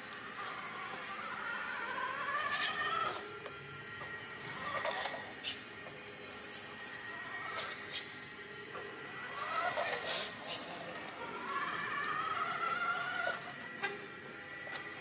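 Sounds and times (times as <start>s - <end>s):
toy motor and gears whining: 0.0s - 15.0s.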